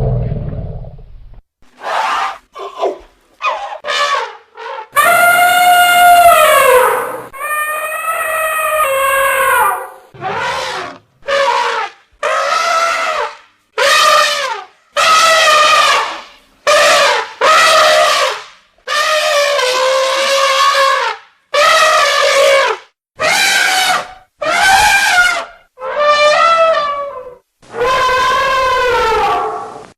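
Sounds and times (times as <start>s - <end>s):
elephants trumpeting: 3.5s - 18.4s, 19.0s - 29.8s.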